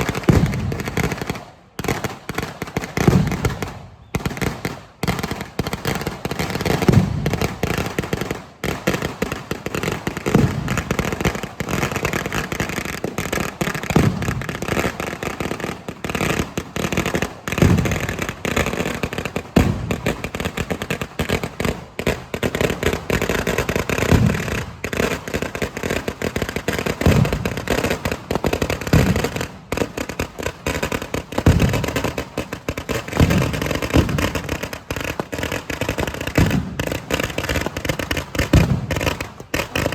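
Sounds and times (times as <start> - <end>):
firecracker bangs and crackle: 0.0 - 39.9
heavy fireworks booms: 0.0 - 39.9.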